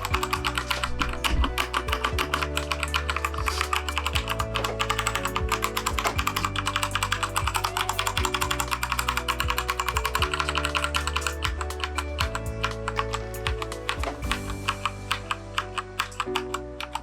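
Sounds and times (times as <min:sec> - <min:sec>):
background music with low notes: 0:00.0 - 0:17.0
fast mechanical keyboard typing: 0:00.0 - 0:17.0.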